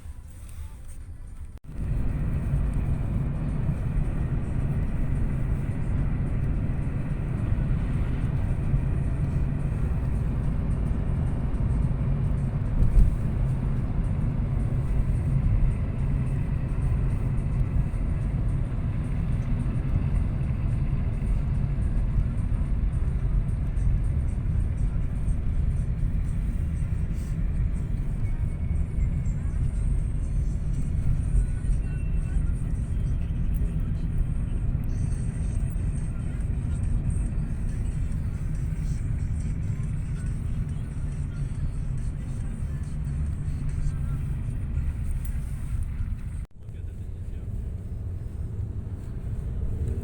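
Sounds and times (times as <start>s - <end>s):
car driving rumble: 0.0s - 50.0s.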